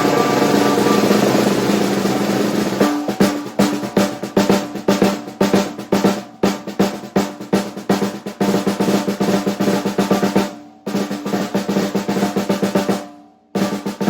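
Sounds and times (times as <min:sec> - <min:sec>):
snare drum hits and rolls: 0:00.0 - 0:14.0.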